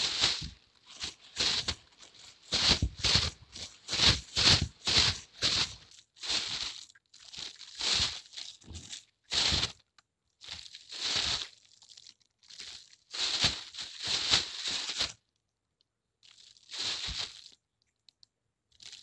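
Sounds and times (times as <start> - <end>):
plastic bag crinkling: 0.0 - 15.3, 16.2 - 17.6, 18.7 - 19.0.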